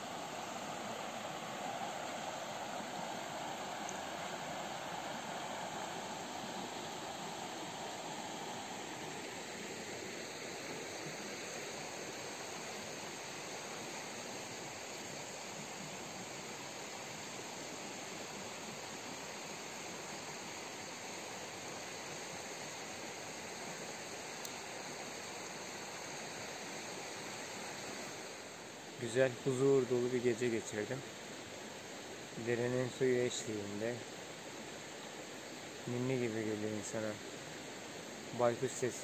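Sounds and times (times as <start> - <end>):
creek water flowing: 0.0 - 39.0.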